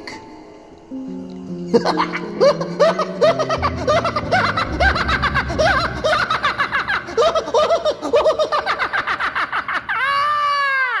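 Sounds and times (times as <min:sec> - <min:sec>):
person cackling with laughter: 0:01.8 - 0:10.9.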